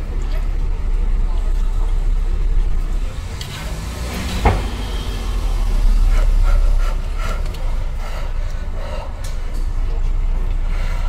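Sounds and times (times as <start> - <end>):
low rumble in car cabin: 0.0 - 11.0.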